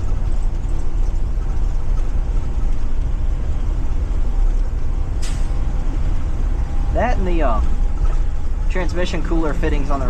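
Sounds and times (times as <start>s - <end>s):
bus engine rumbling: 0.0s - 10.0s
road noise: 0.0s - 10.0s.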